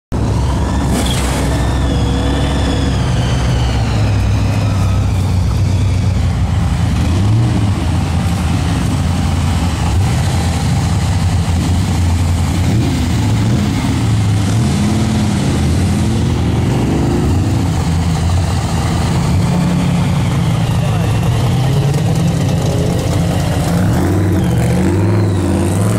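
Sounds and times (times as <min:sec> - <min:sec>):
car engine running at low revs: 0:02.5 - 0:25.9.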